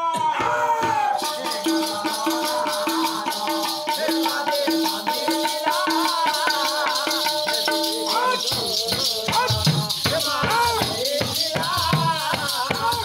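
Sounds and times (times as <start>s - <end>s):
hand drum beating: 0.1s - 13.0s
jingling bells: 1.1s - 13.0s.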